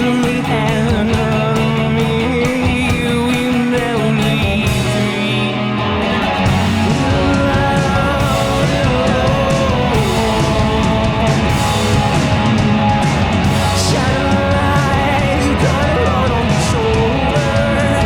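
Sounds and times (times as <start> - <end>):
drums: 0.0 - 18.0
electric guitars: 0.0 - 18.0.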